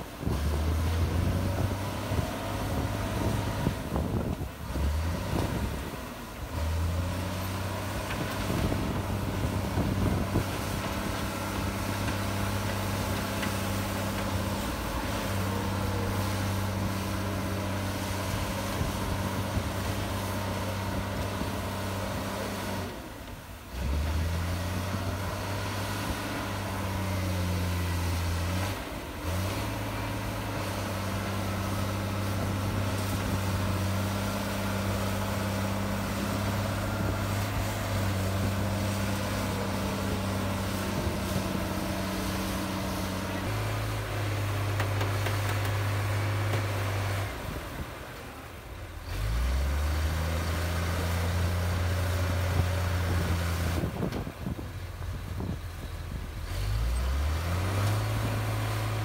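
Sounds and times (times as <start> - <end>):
bulldozer diesel engine humming: 0.0 - 59.0.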